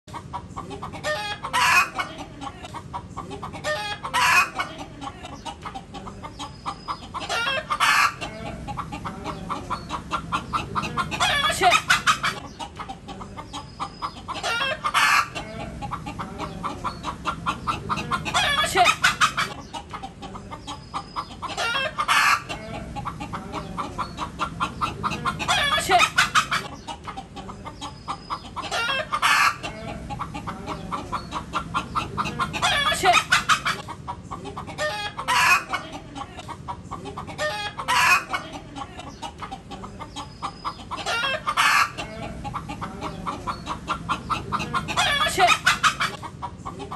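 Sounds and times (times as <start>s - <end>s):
hen cackling and squawking: 0.1s - 46.9s.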